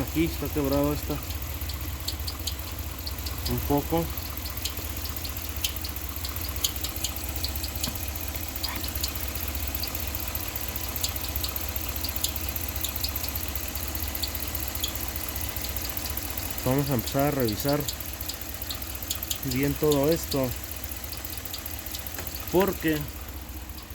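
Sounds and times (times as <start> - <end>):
car engine idling: 0.0 - 23.9
high-pitched engine ticks: 0.0 - 23.9.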